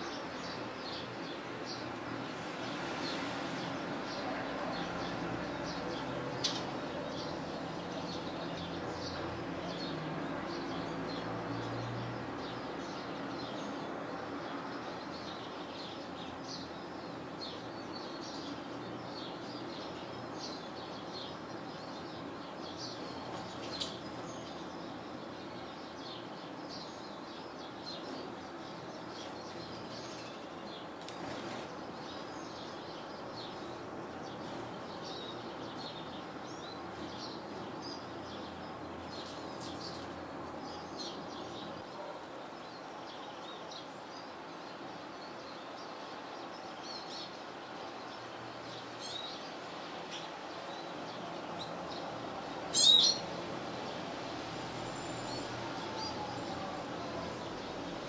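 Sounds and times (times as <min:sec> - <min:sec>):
songbirds chirping and twittering: 0:00.0 - 0:58.0
steady background noise: 0:00.0 - 0:58.0.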